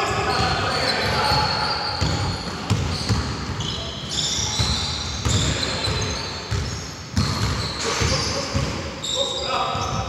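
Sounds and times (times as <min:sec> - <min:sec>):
shoe squeaks: 0:00.1 - 0:10.0
basketball bouncing on court: 0:00.3 - 0:08.8.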